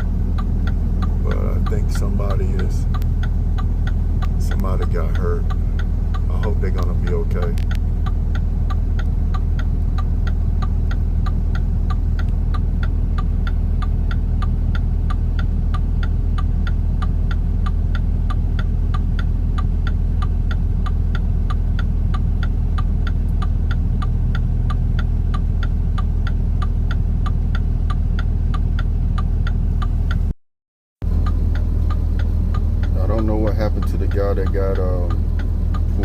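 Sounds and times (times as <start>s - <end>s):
vehicle engine idling: 0.0s - 30.3s, 31.0s - 36.0s.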